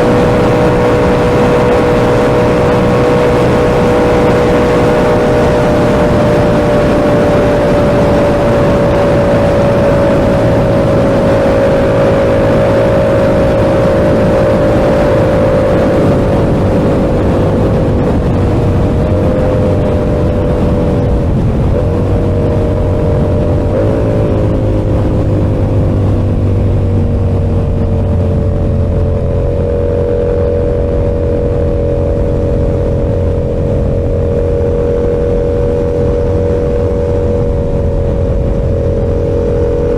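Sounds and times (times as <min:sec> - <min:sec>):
engine revving blips: 0:00.0 - 0:39.9
motorcycle engine running: 0:00.0 - 0:39.9.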